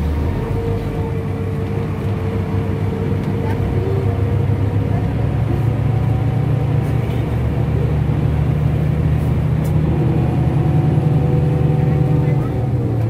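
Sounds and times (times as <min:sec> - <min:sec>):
diesel engine drone: 0:00.0 - 0:13.0.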